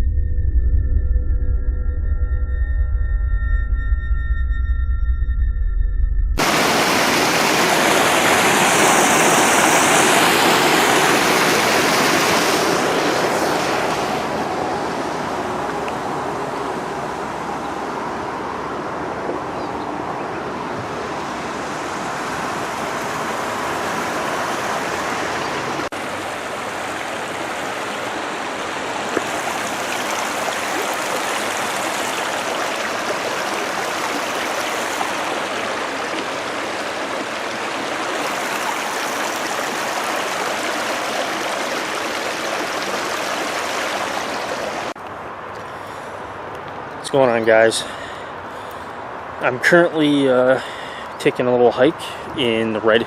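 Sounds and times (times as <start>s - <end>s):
river water rushing: 6.4s - 50.0s
highway traffic hum: 6.4s - 53.0s.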